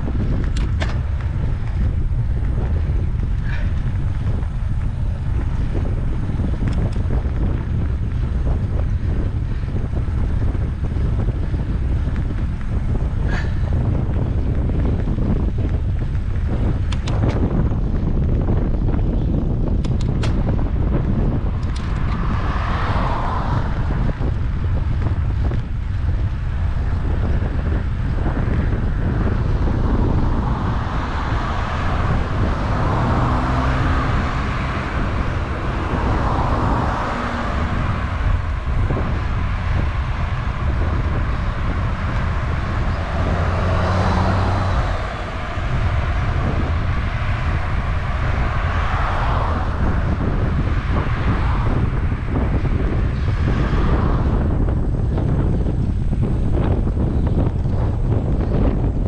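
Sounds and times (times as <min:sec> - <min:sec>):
cars passing: 0:00.0 - 0:59.0
low road rumble: 0:00.0 - 0:59.0
wind buffeting microphone: 0:00.0 - 0:59.0.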